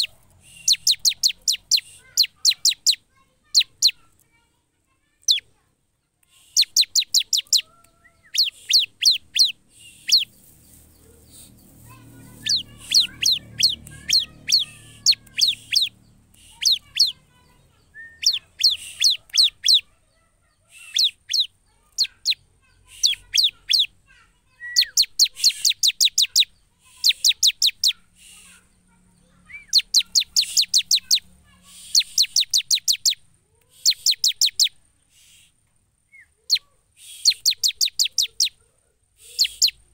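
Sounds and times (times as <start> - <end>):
bird chattering song: 0.0 - 4.2, 5.0 - 5.6, 6.2 - 39.9.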